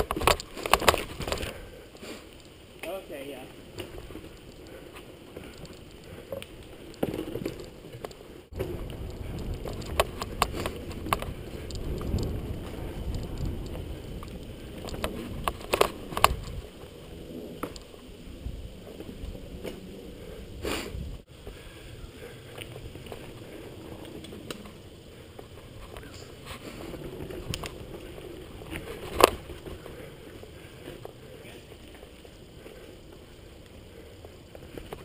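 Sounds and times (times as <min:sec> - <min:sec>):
bike rattling over bumps: 0:00.0 - 0:35.0
bike riding rumble on dirt: 0:00.0 - 0:35.0.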